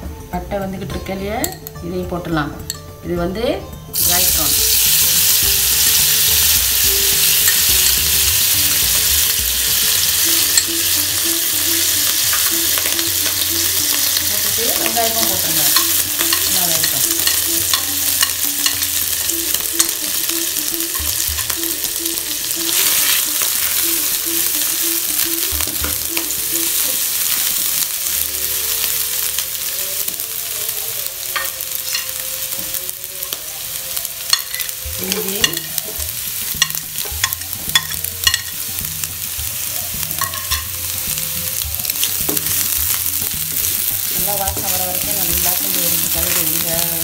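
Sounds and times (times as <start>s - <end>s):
shallots sizzling in oil: 2.7s - 47.0s.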